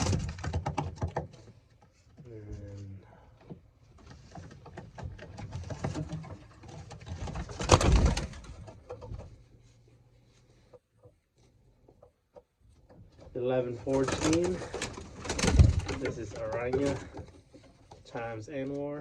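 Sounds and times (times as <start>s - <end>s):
rustling and handling noise: 0.0s - 19.0s.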